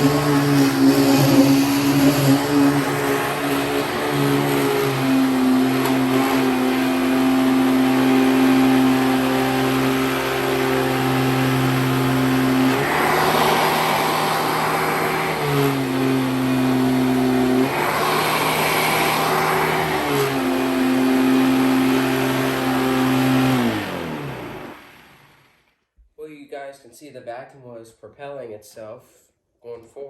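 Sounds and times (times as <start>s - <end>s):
vacuum cleaner motor hum: 0.0s - 25.7s.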